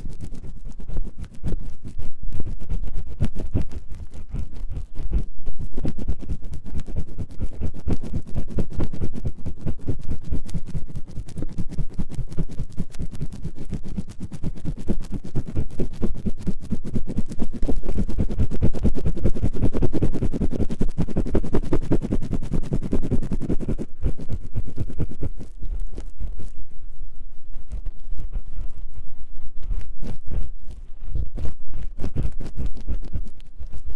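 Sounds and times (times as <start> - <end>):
tool scratching inside microphone ear: 0.0 - 33.9.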